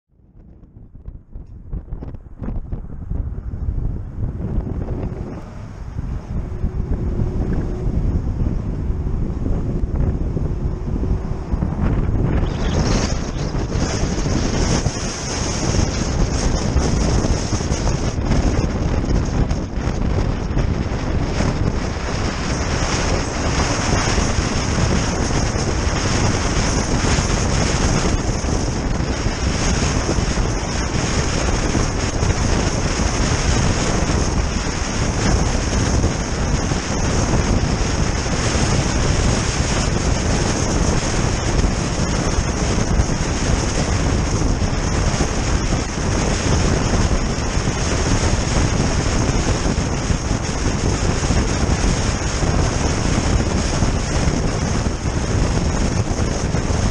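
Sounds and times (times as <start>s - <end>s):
car road noise: 0.1s - 56.9s
wind buffeting microphone: 0.1s - 56.9s.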